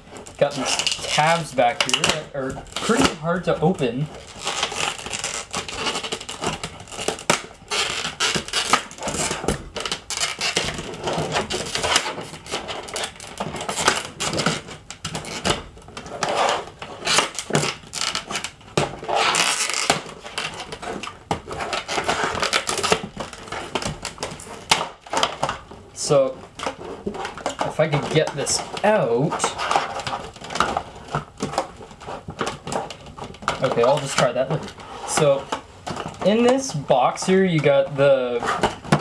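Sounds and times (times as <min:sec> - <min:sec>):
plastic packaging crackling: 0:00.0 - 0:39.0.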